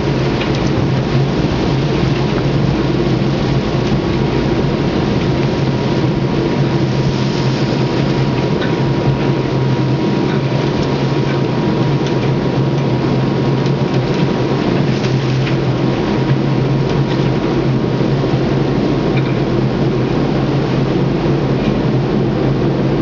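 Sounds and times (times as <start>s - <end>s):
water rushing: 0.0s - 18.8s
boat engine humming: 0.0s - 23.0s
wind: 0.0s - 23.0s.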